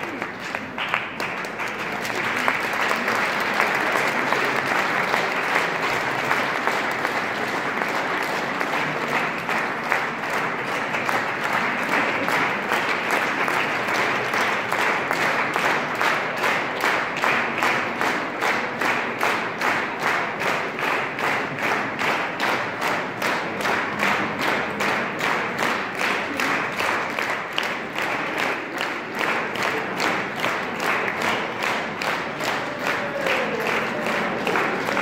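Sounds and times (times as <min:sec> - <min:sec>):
audience applauding: 0:00.0 - 0:35.0
rhythmic clapping in unison: 0:00.0 - 0:35.0.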